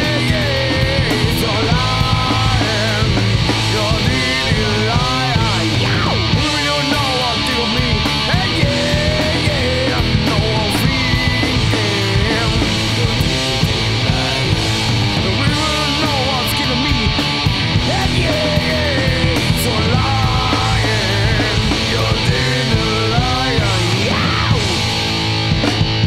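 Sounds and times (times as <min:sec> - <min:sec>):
distorted electric guitar solo: 0:00.0 - 0:26.0
hard rock band playing: 0:00.0 - 0:26.0.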